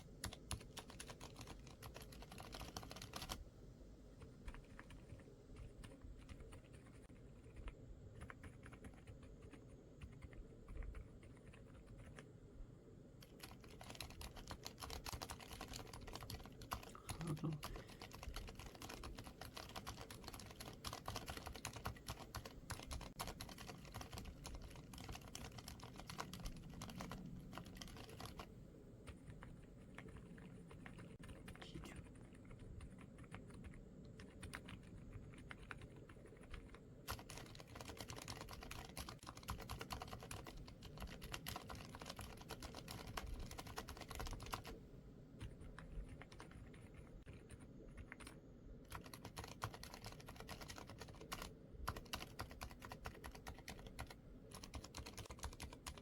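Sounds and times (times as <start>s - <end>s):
soft keyboard keystrokes: 0.0s - 3.4s, 4.2s - 12.3s, 13.2s - 44.8s, 45.4s - 56.0s.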